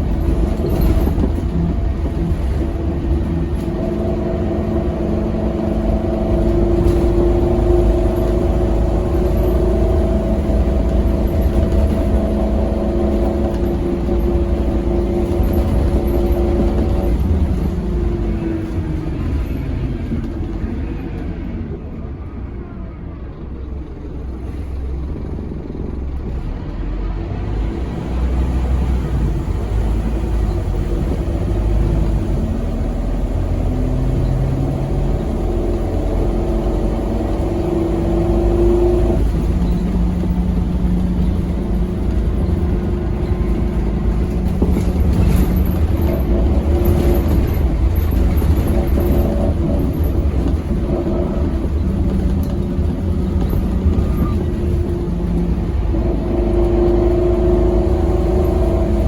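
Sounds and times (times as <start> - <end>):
bus engine while driving: 0.0 - 59.0.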